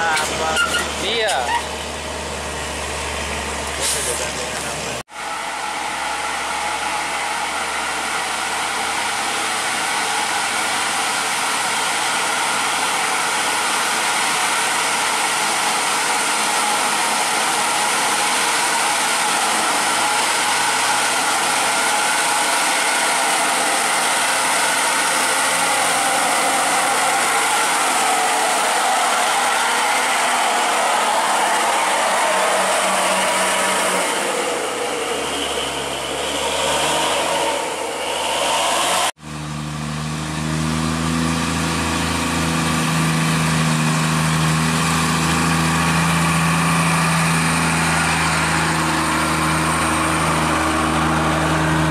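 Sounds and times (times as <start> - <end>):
diesel truck engine running: 0.0 - 51.9
gear and drivetrain whine: 0.0 - 51.9.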